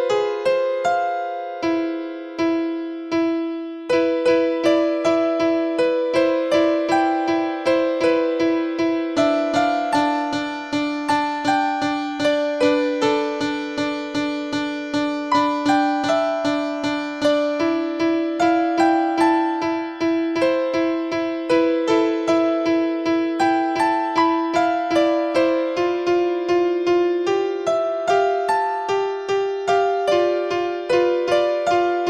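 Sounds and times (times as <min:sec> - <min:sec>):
simple keyboard tune: 0:00.0 - 0:32.0.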